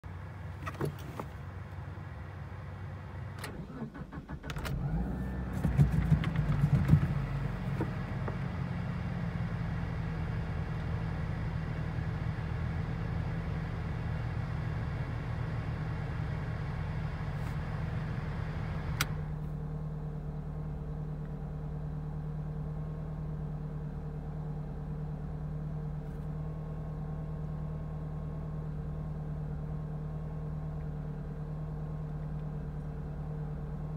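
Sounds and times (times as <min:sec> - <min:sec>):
car engine starting and idling: 0:00.1 - 0:33.9.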